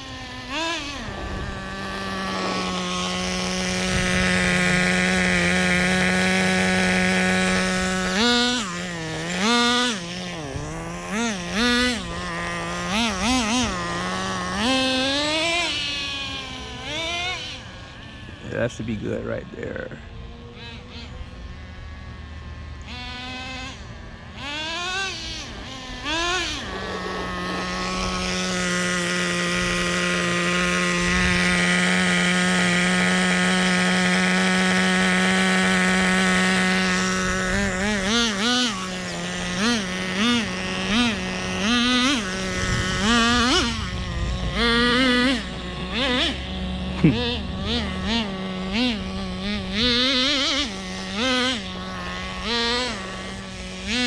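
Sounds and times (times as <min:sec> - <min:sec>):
small rc car engine revving: 0:00.0 - 0:54.0.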